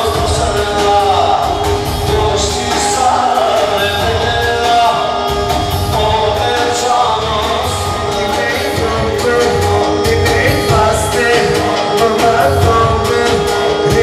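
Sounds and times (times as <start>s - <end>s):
loud dance music with singing: 0.0s - 14.0s.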